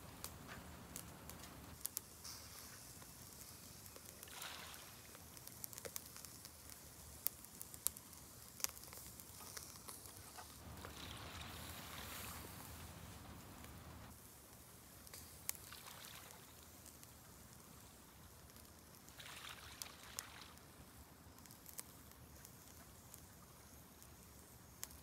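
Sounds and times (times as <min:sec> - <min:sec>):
crackling pops from coals: 0:00.0 - 0:25.0
meat sizzling on a grill: 0:00.0 - 0:25.0
soft rushing hiss: 0:00.0 - 0:25.0.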